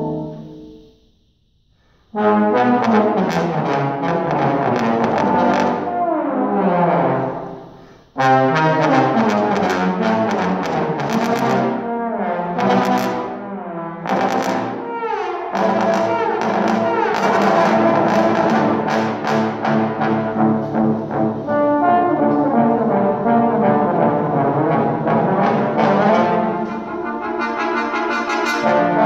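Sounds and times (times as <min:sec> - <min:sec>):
trombone choir playing: 0:00.0 - 0:01.0, 0:02.1 - 0:29.0.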